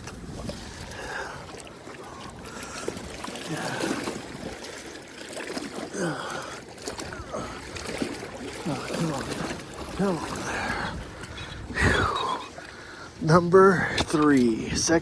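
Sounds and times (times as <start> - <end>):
water splashing at shoreline: 0.0 - 15.0.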